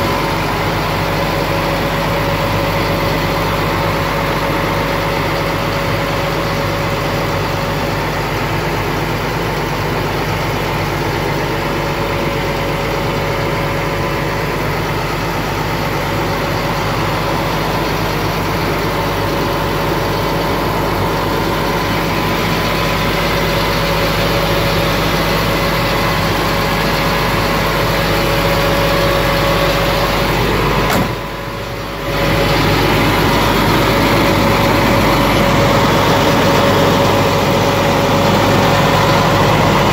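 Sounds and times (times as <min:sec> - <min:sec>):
steady whine: 0:00.0 - 0:39.9
truck engine idling: 0:00.0 - 0:39.9.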